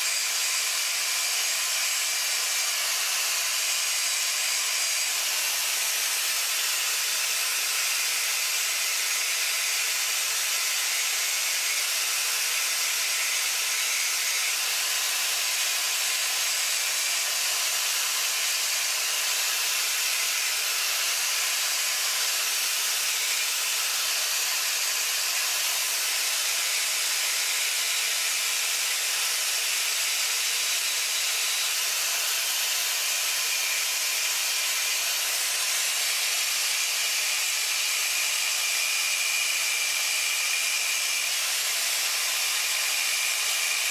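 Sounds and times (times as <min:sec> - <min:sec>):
angle grinder grinding steel: 0:00.0 - 0:43.9.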